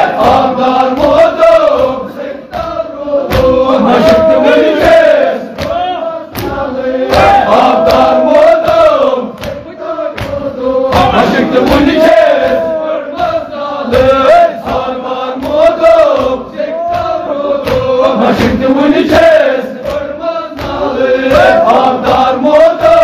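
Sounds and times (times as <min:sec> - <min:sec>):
crowd of voices: 0:00.0 - 0:23.0
sharp slaps: 0:00.1 - 0:23.0
man chanting into a microphone: 0:03.4 - 0:23.0.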